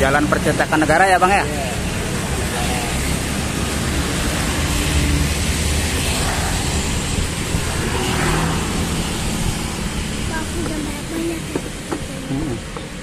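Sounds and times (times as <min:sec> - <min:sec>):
minibus engine passing: 0:00.0 - 0:13.0
motor scooters passing: 0:00.0 - 0:13.0
rumble of traffic: 0:00.0 - 0:13.0.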